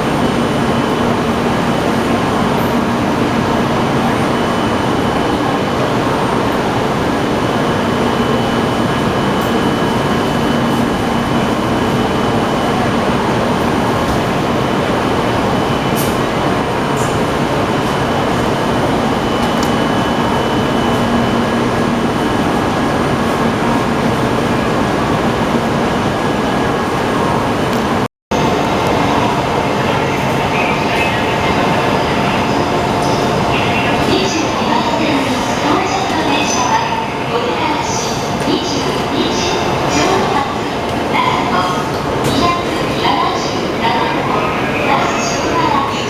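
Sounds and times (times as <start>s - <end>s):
moving train running noise: 0.0s - 46.0s.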